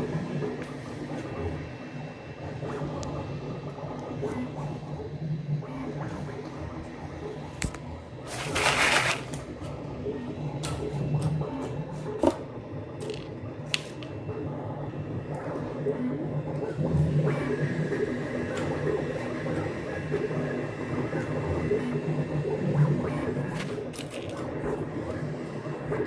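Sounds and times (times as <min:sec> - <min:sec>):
three-d printers humming: 0:00.0 - 0:26.0.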